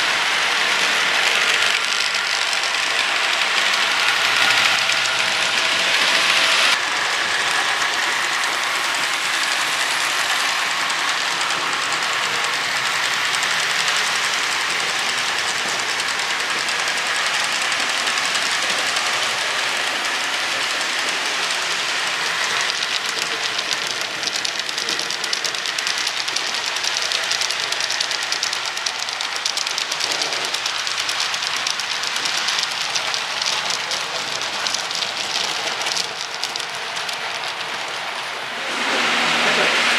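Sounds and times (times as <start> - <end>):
clicking over rail joints: 0.0 - 6.8, 7.4 - 38.5
model train wheels rolling on track: 0.0 - 39.9.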